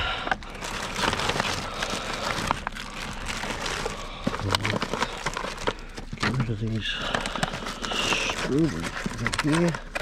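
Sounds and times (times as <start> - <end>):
plastic packaging rustling: 0.1 - 10.0.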